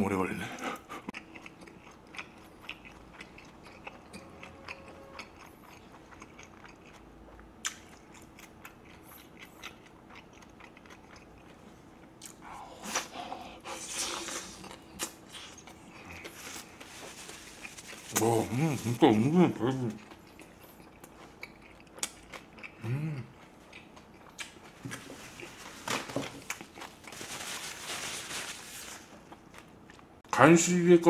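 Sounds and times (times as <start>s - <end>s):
chewing a mouthful of wrap: 1.1s - 30.2s.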